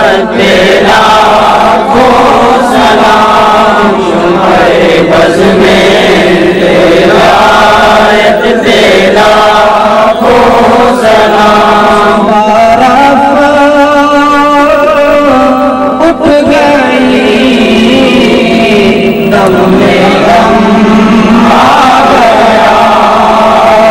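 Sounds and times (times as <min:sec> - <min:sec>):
men chanting: 0:00.0 - 0:23.9
singer on a microphone: 0:00.0 - 0:23.9.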